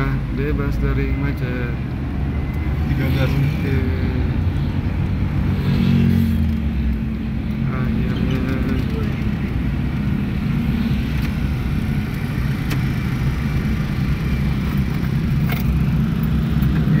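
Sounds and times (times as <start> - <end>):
car cabin engine and tyre rumble: 0.0 - 17.0.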